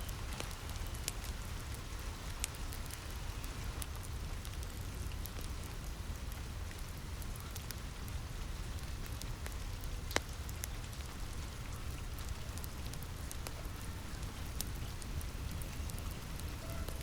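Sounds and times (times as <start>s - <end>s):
rain on a roof: 0.0s - 17.0s
wood fire crackling: 0.0s - 17.0s.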